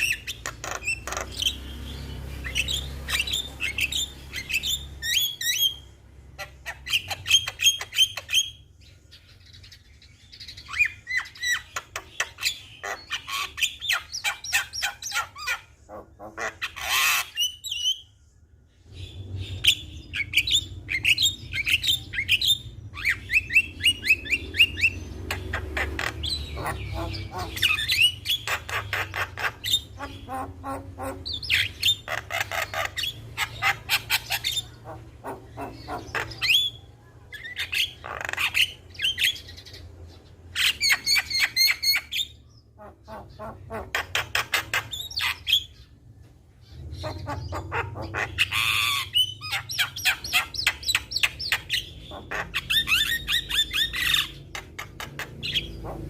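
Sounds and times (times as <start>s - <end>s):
bird harsh chattering: 0.0s - 8.7s, 10.4s - 18.0s, 19.6s - 46.0s, 46.6s - 56.0s.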